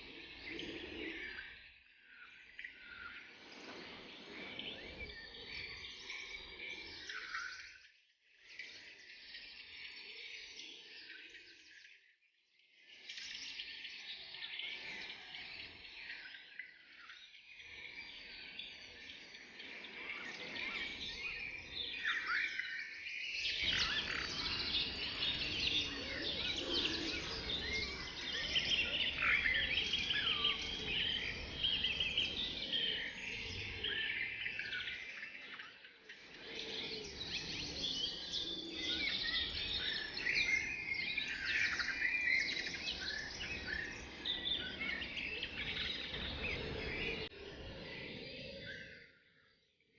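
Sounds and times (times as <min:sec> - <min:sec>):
birds chirping and trilling: 0:00.0 - 0:12.2, 0:12.8 - 0:49.9.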